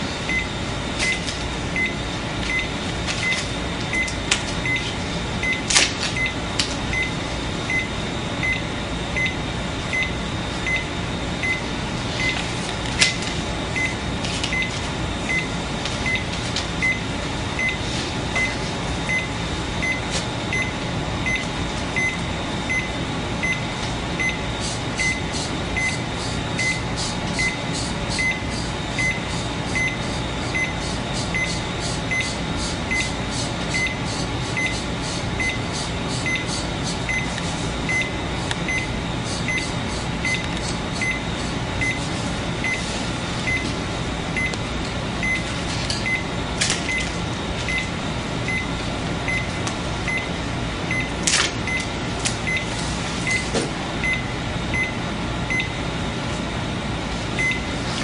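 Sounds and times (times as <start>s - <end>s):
steady room hum: 0.0s - 58.0s
heart monitor beeps: 0.3s - 1.2s, 1.8s - 12.4s, 13.8s - 24.4s, 25.0s - 26.0s, 26.6s - 26.8s, 27.4s - 30.0s, 30.6s - 34.8s, 35.4s - 43.7s, 44.4s - 44.6s, 45.2s - 46.3s, 47.7s - 47.9s, 48.5s - 48.7s, 49.3s - 50.3s, 50.9s - 55.8s, 57.4s - 57.7s.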